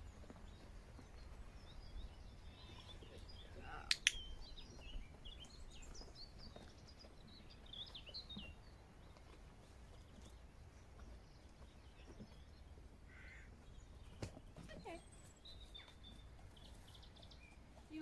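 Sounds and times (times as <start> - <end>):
low steady outdoor background noise: 0.0 - 18.0
small birds chirping and twittering: 0.0 - 18.0.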